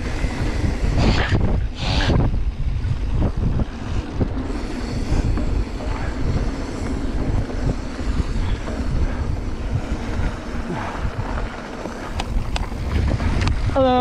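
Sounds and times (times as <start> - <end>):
tyres rolling over dirt: 0.0 - 14.0
wind buffeting microphone: 0.0 - 14.0
bike knocks and rattles: 2.2 - 14.0.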